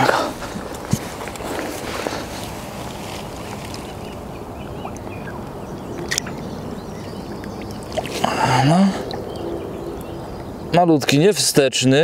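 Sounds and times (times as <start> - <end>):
low outdoor noise by water: 0.0 - 12.0.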